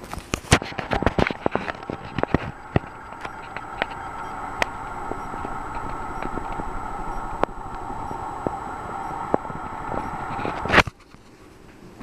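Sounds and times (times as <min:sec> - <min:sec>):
ceiling fan hissing: 0:00.0 - 0:12.0.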